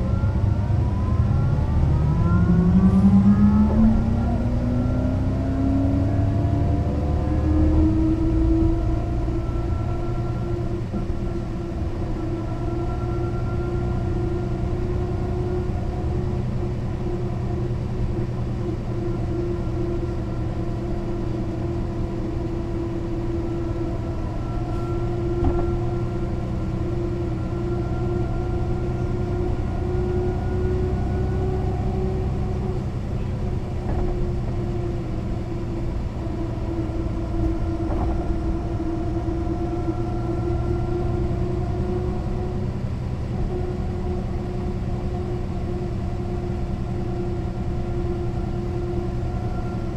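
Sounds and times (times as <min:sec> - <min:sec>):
bus diesel engine running: 0:00.0 - 0:49.9
rising whine: 0:00.0 - 0:49.9.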